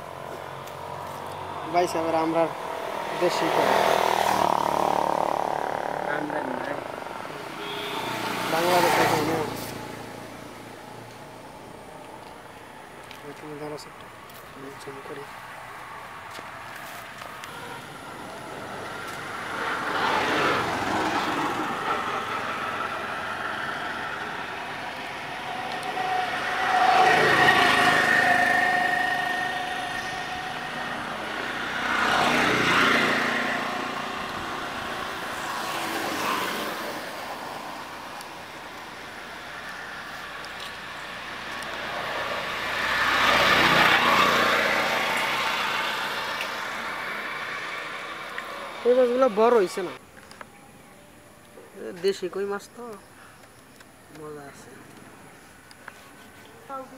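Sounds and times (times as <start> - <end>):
vehicles passing by: 0.0 - 56.9.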